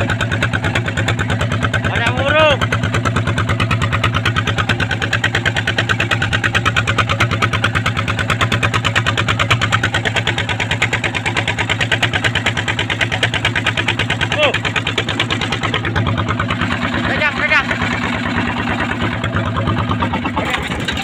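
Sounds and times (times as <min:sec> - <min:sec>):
boat engine chugging: 0:00.0 - 0:21.0.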